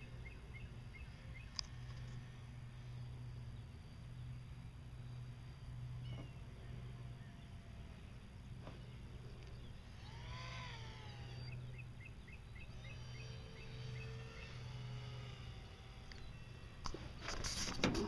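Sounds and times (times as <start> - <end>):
birds chirping: 0.0 - 17.2
low pulsing hum: 0.0 - 18.0.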